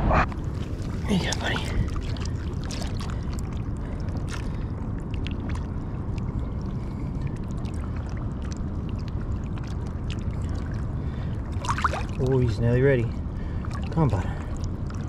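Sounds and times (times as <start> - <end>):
steady low rumble: 0.0 - 15.0
shallow water sloshing and splashing: 0.3 - 15.0.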